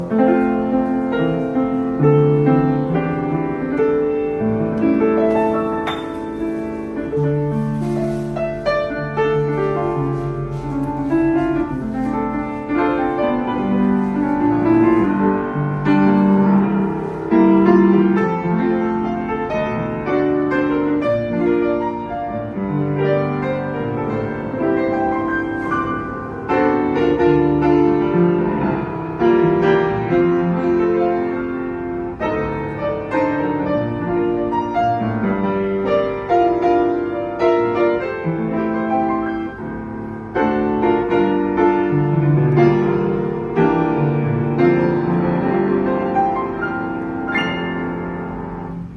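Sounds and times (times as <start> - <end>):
classical piano playing: 0.0 - 48.9.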